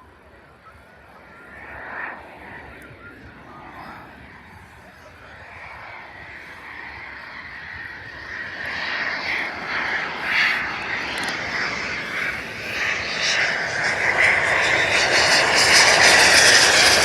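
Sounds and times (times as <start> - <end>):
jet engines approaching: 0.0 - 17.0.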